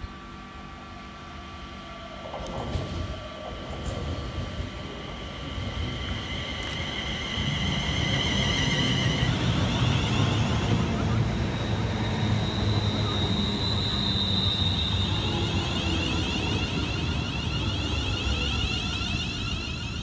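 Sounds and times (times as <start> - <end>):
train rumble: 1.1 - 20.0.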